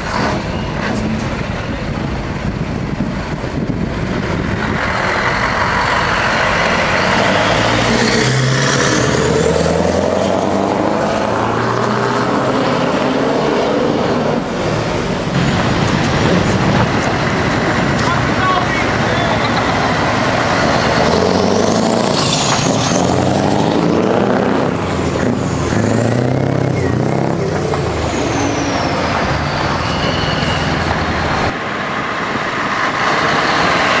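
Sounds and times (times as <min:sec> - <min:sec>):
truck diesel engine driving past: 0:04.2 - 0:34.0.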